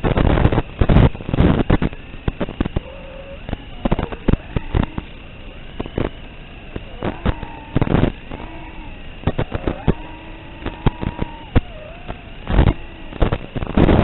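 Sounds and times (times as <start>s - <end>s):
drone motors whining: 0.0s - 14.0s
loud noisy burst: 0.0s - 14.0s.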